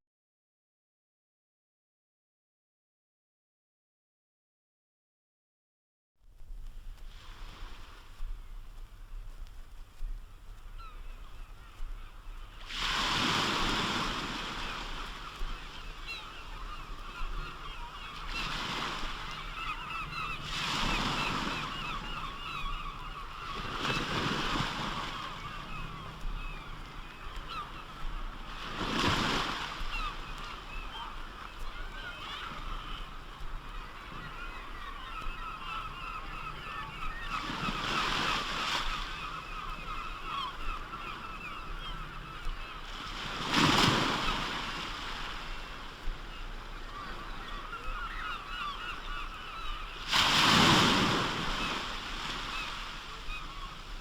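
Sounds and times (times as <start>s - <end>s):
waves breaking: 6.4s - 54.0s
seabirds calling: 9.9s - 54.0s.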